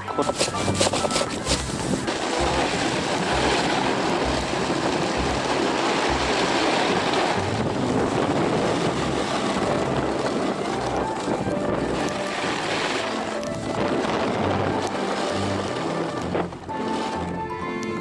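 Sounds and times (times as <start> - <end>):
low rumbles: 0.0 - 18.0
snowboard sliding on snow: 0.0 - 18.0
wind buffeting microphone: 0.0 - 18.0.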